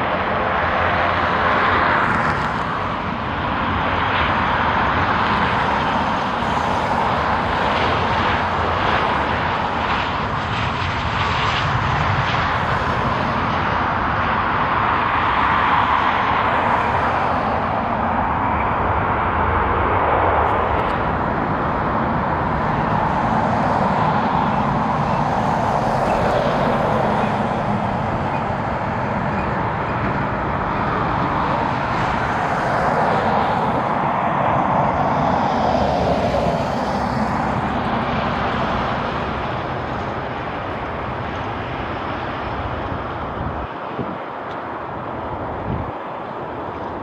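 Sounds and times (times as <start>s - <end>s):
jet airliner engines: 0.0s - 47.0s.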